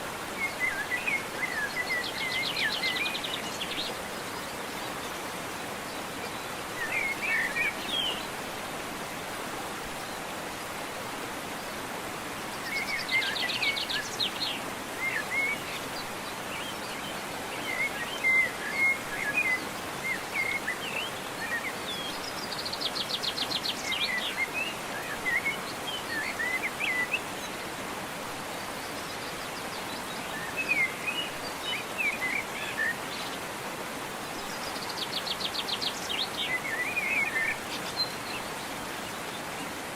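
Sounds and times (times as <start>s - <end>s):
waterfall rushing: 0.0s - 39.9s
songbirds chirping and trilling: 0.1s - 39.9s.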